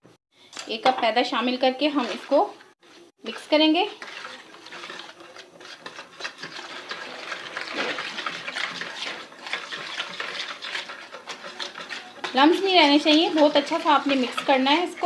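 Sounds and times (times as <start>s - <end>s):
wet batter stirring and squelching: 0.7s - 15.0s.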